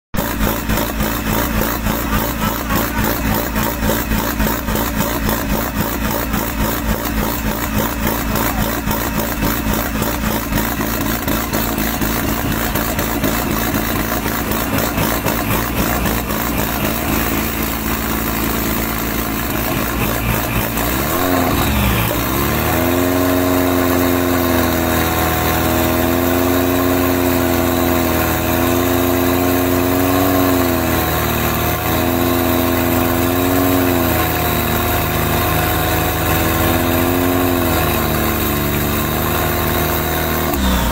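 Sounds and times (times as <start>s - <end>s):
pickup truck engine revving: 0.1s - 40.9s.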